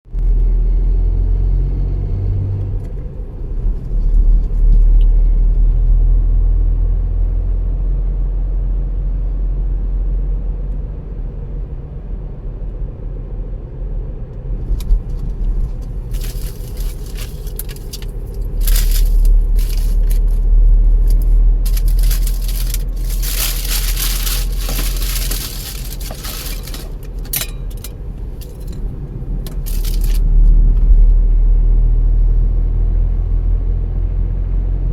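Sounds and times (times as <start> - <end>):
car driving on road: 0.1 - 34.9.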